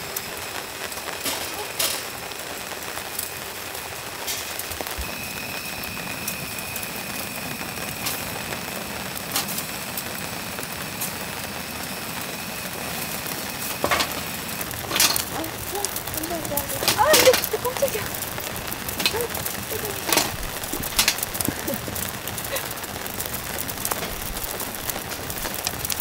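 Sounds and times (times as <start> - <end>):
gas stove burner hiss: 0.0 - 26.0
rain on a tent: 0.0 - 26.0.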